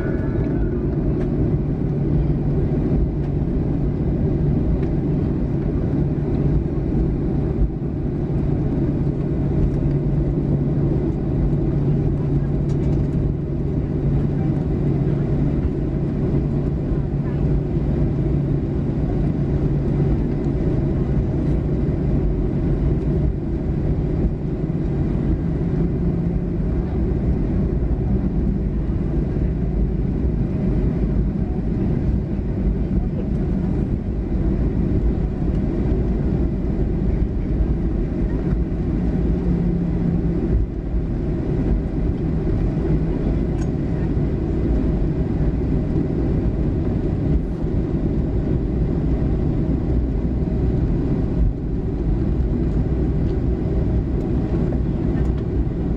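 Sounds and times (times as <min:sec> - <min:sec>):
jet engines rumbling in cabin: 0:00.0 - 0:55.9.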